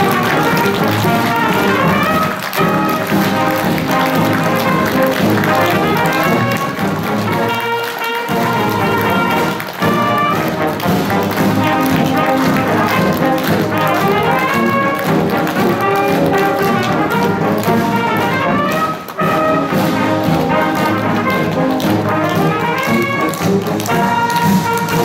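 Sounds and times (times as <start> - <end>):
brass band music: 0.0 - 25.0.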